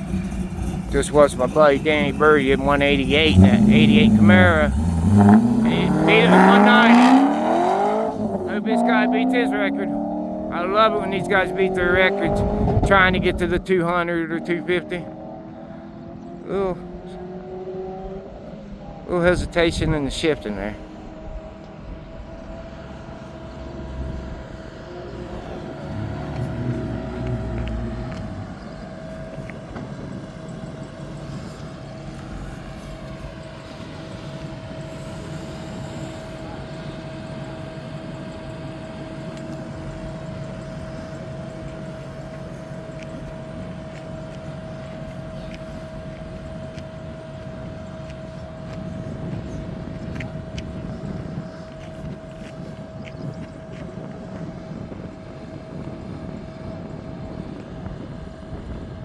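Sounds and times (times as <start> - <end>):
distant race car engine: 0.0 - 59.0.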